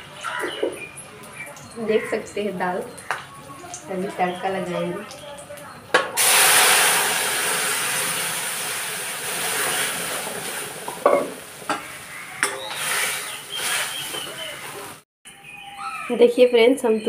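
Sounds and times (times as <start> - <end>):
oil and spices sizzling: 0.0 - 15.0.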